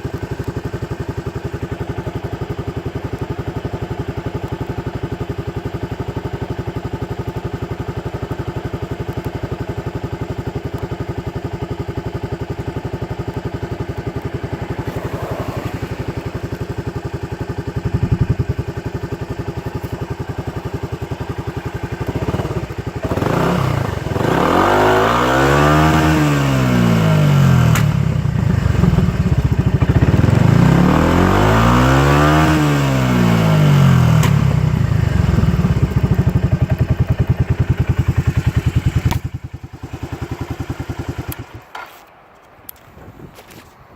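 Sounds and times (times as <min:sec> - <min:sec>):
scooter engine idling and revving: 0:00.0 - 0:42.0.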